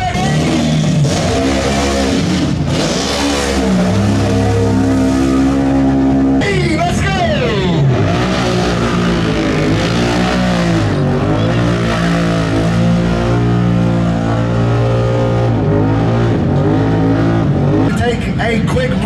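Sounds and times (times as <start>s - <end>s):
quad engine revving in mud: 0.0s - 6.4s, 7.4s - 19.0s.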